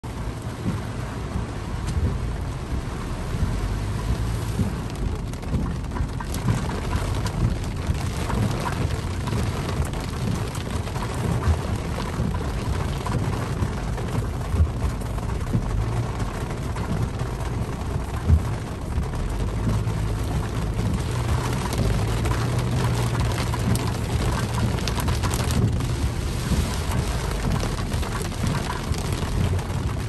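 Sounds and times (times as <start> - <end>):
heavy rain on car roof: 0.0 - 30.0
deep drumming: 0.4 - 30.0.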